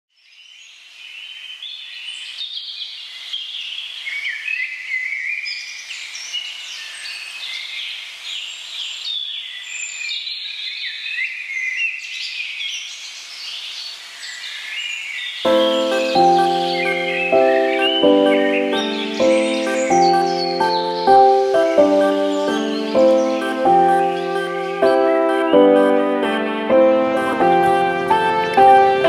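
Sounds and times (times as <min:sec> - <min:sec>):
chorus of birds chirping: 0:00.2 - 0:29.0.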